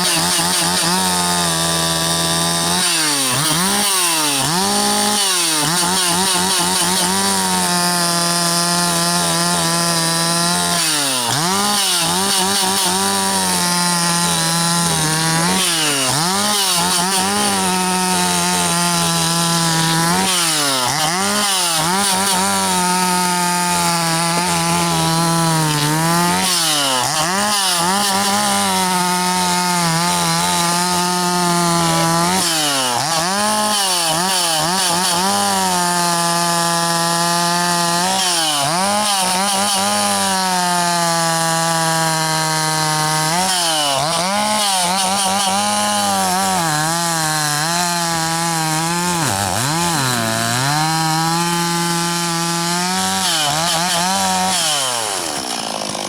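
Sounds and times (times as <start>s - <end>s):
chainsaw cutting at high revs: 0.0s - 56.0s.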